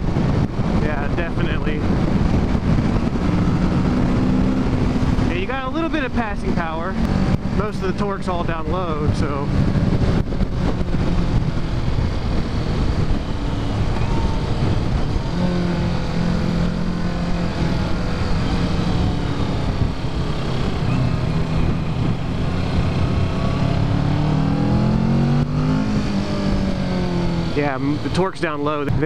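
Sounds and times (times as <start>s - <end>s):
motorcycle engine running: 0.0s - 29.0s
wind rush on microphone: 0.0s - 29.0s.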